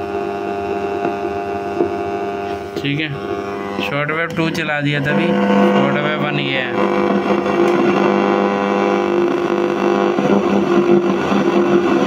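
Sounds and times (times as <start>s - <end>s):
radio buzzing drone with static: 0.0s - 12.0s.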